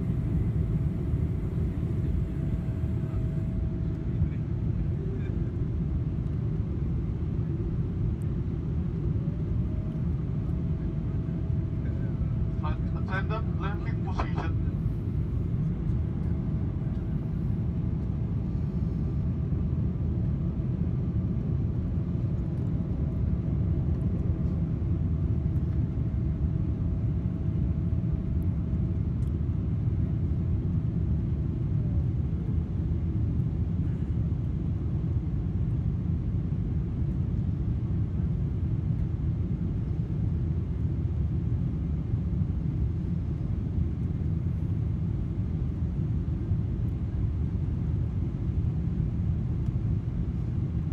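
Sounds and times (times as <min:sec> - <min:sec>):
airplane cabin engine rumble: 0:00.0 - 0:50.9
faint steady whine: 0:00.0 - 0:50.9.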